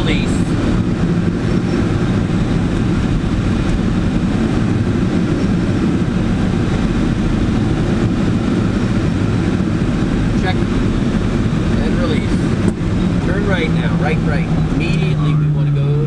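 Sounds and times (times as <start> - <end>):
air rushing over glider canopy: 0.0 - 14.9
tow plane engine: 0.0 - 16.0.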